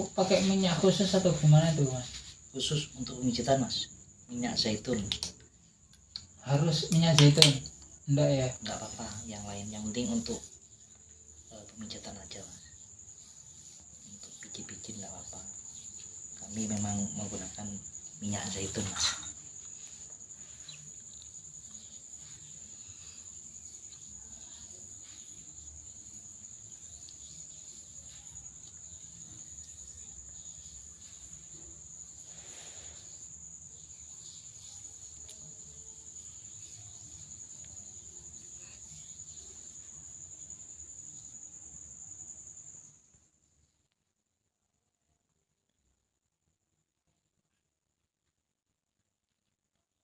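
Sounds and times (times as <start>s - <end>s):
faint low background noise: 0.0s - 50.0s.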